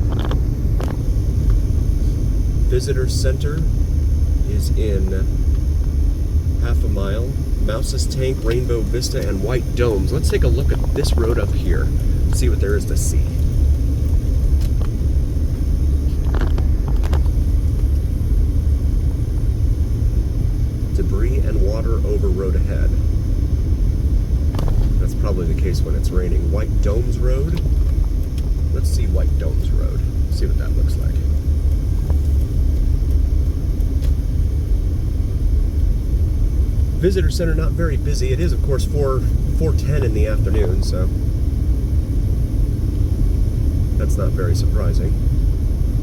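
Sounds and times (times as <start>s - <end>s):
car cabin road rumble: 0.0s - 46.0s.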